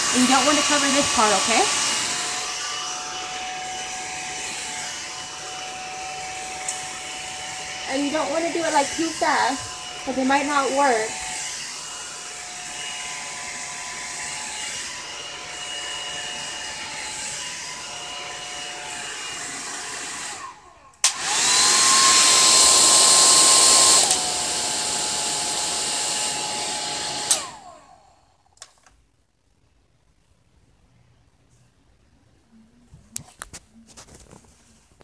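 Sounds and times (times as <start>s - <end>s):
hair dryer running: 0.0s - 28.4s.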